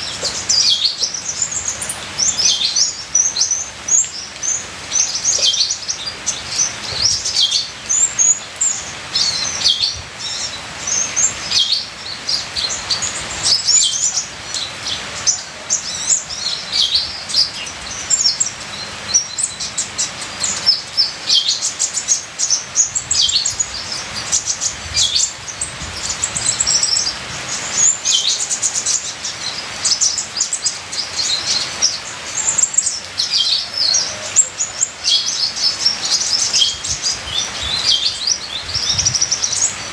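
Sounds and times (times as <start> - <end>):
bird twittering song: 0.0 - 39.9
trickling rain water: 0.0 - 39.9.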